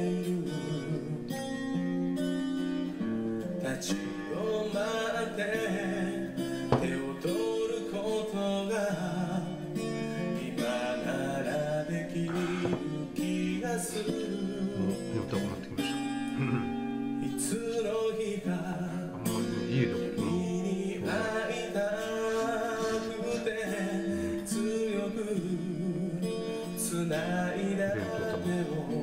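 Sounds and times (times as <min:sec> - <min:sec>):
person singing: 0:00.0 - 0:01.4, 0:03.6 - 0:09.6, 0:10.2 - 0:29.0
strummed acoustic guitar: 0:00.0 - 0:29.0.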